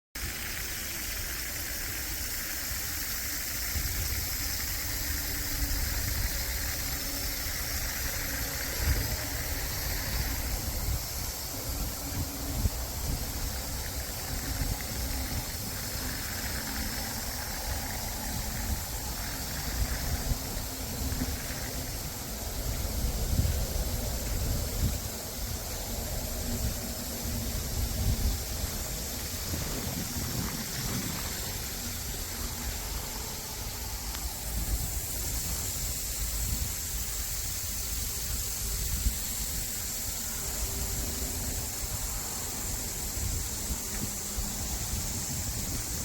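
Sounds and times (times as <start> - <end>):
steady high hiss: 0.2 - 46.0
wind buffeting microphone: 0.4 - 46.0.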